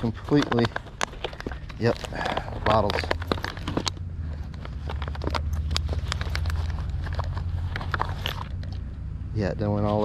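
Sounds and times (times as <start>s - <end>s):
clicks and knocks of handled gear: 0.0s - 8.8s.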